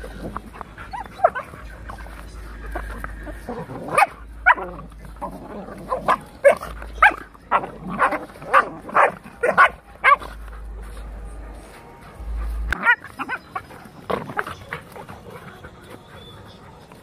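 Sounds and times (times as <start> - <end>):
dogs play-fighting: 0.0 - 17.0.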